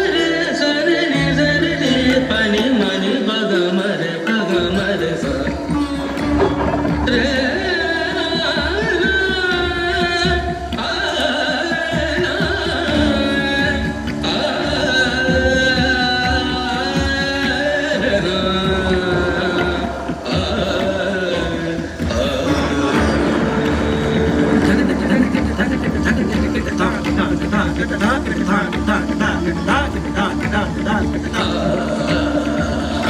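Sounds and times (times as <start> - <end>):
person singing ornamented notes: 0.0 - 33.0
tabla drumming: 0.0 - 33.0.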